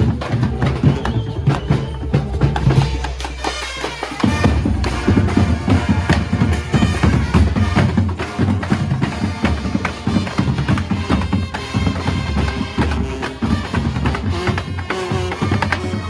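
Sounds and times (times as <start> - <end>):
bass drum beat: 0.0 - 16.0
street band playing: 0.0 - 16.0.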